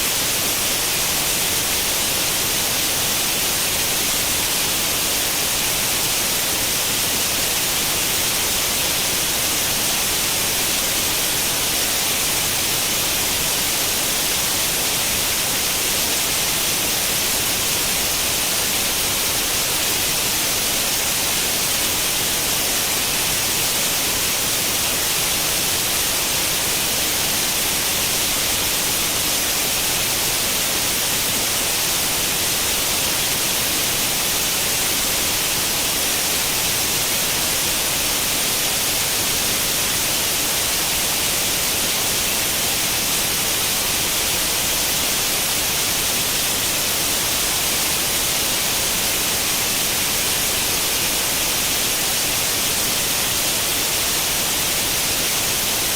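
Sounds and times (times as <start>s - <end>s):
tv static hiss: 0.0s - 55.9s.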